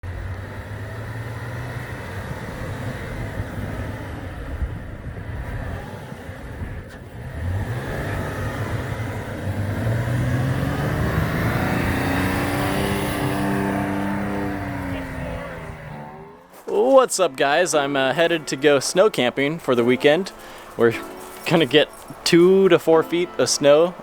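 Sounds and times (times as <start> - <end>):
vehicle engine accelerating: 0.0 - 24.0.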